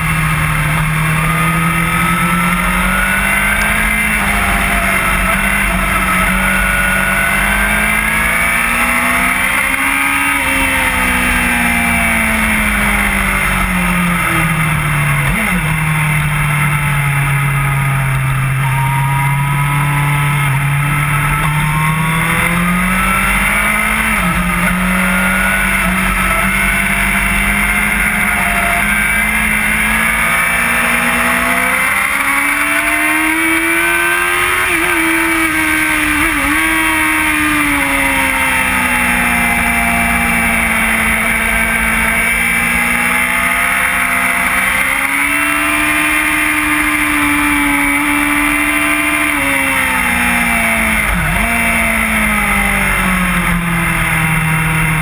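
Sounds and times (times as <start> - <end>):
gear changes: 0.0 - 55.0
motorcycle engine revving: 0.0 - 55.0.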